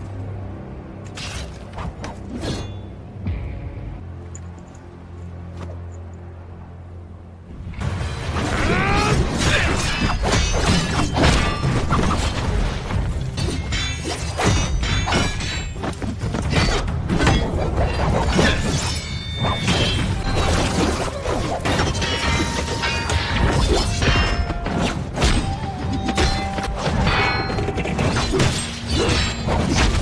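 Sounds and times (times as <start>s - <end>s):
music: 0.0s - 30.0s.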